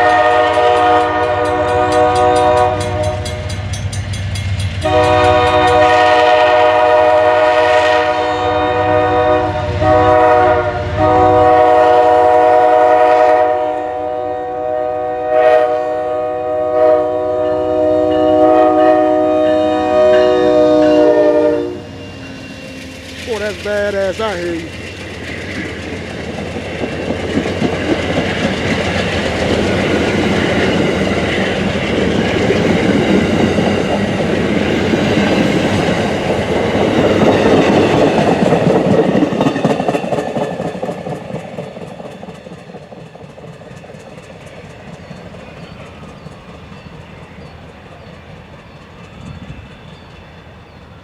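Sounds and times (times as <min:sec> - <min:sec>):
train wheels rumbling and clacking: 0:00.0 - 0:13.9, 0:19.5 - 0:51.0.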